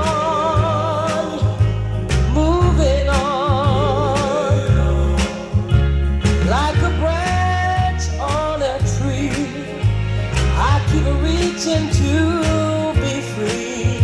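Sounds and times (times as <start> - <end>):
bass line: 0.0 - 14.0
person singing: 0.0 - 14.0.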